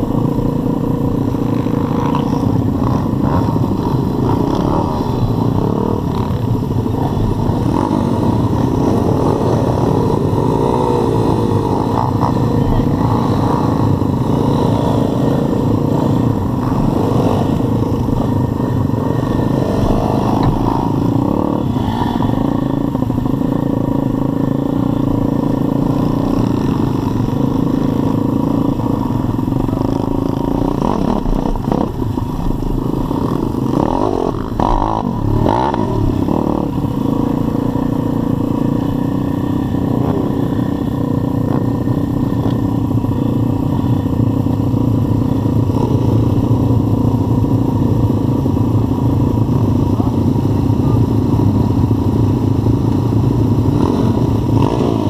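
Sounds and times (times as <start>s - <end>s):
engine revving: 0.0s - 48.2s, 53.6s - 55.0s
motorbike engines running: 0.0s - 55.0s.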